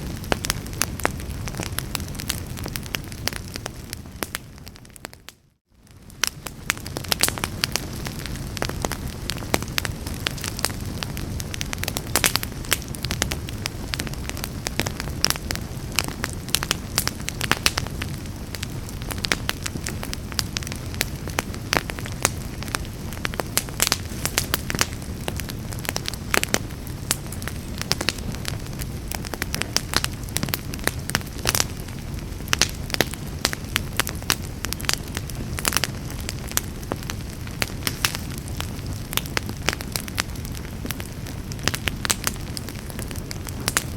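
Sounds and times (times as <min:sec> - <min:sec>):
fire crackling and popping: 0:00.0 - 0:43.9
low rumble of burning: 0:00.0 - 0:43.9.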